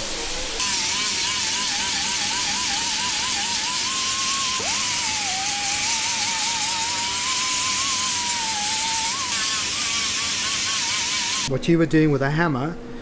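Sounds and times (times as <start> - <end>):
disc sander grinding: 0.6 - 11.5.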